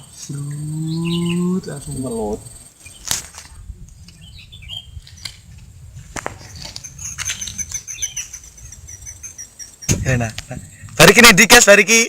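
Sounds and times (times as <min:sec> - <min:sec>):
small birds chirping: 0:00.0 - 0:05.6, 0:06.3 - 0:10.9.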